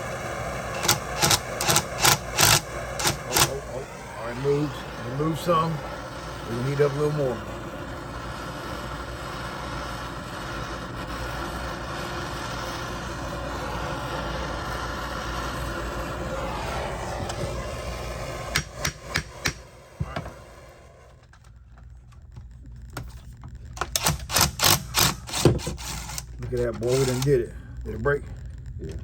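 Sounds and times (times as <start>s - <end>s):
torch flame hissing: 0.0s - 21.4s, 22.8s - 29.0s.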